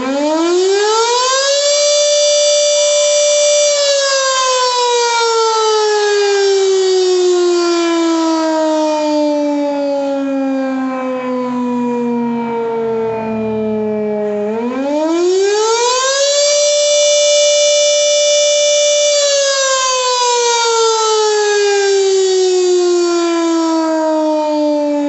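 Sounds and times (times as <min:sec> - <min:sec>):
fire siren wailing: 0:00.0 - 0:25.0.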